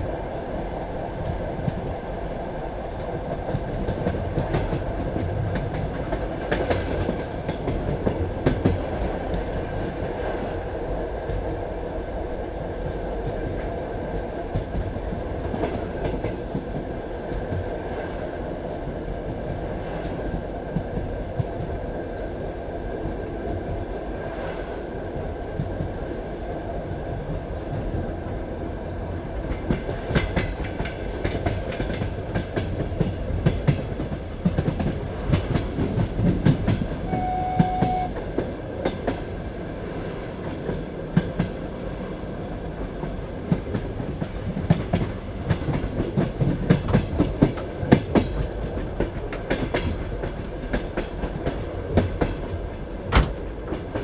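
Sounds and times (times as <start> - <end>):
train wheels rumbling: 0.0 - 26.2, 27.1 - 54.0
clickety-clack over rail joints: 1.1 - 2.1, 2.8 - 11.7, 12.8 - 26.2, 29.0 - 54.0.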